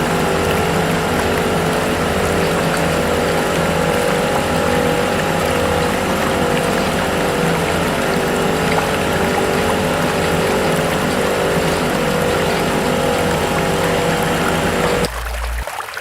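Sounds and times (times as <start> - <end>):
small electric pump motor humming: 0.0 - 15.7
water rushing: 0.0 - 16.0.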